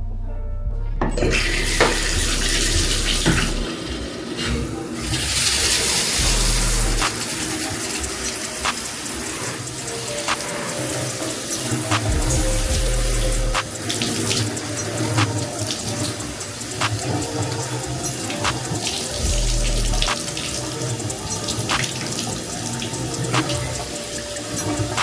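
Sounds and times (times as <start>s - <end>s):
water running into bathtub: 1.1s - 25.0s.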